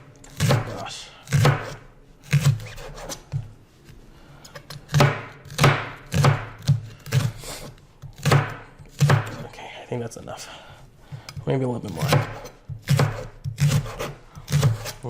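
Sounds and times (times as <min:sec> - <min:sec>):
knife chopping on cutting board: 0:00.0 - 0:03.5, 0:04.5 - 0:09.4, 0:11.1 - 0:15.0.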